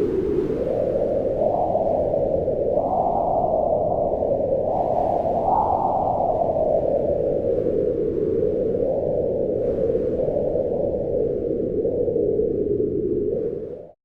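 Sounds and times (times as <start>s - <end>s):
wind blowing in gusts: 0.0s - 14.0s.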